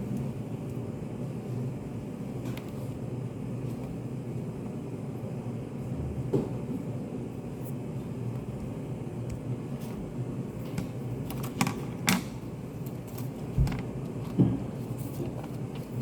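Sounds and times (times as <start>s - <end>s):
ventilation hum: 0.0s - 16.0s.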